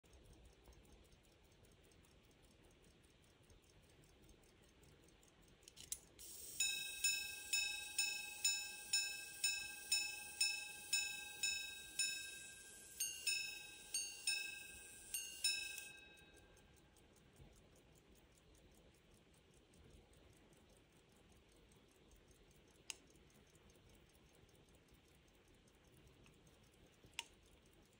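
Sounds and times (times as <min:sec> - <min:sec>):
watch clicks: 0:00.0 - 0:27.9
watch ticking: 0:00.0 - 0:27.9.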